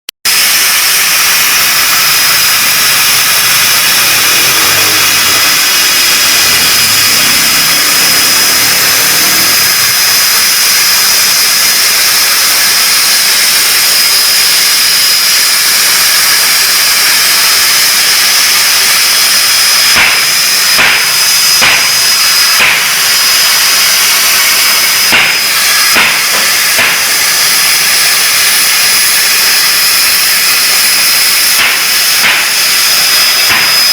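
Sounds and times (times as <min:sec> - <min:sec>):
plasma cutter hissing: 0:00.3 - 0:33.9.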